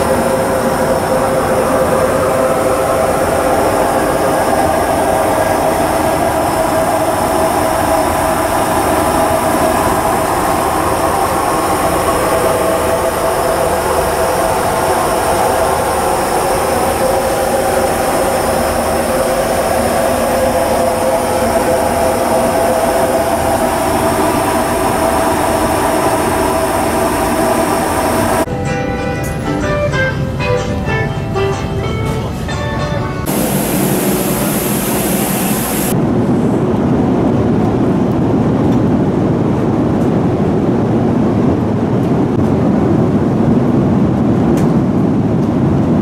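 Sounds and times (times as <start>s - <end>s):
jet engine and airflow rush: 0.0s - 46.0s.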